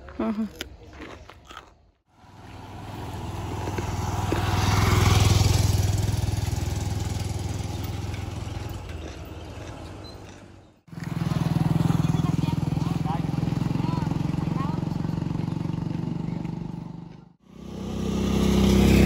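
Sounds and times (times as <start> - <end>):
motorcycle passing by: 2.1 - 19.0.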